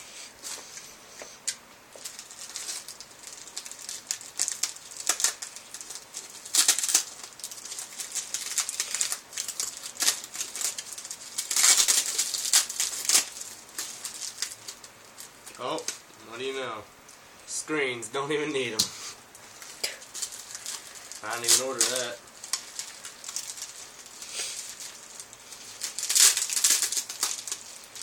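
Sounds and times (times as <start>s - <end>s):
packaging crinkling and rustling: 1.9s - 16.5s, 18.7s - 28.0s.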